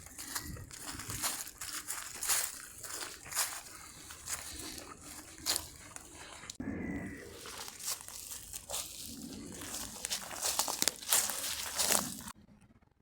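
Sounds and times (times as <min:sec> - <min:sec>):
footsteps crunching on track bed: 0:00.0 - 0:06.6, 0:07.3 - 0:12.3.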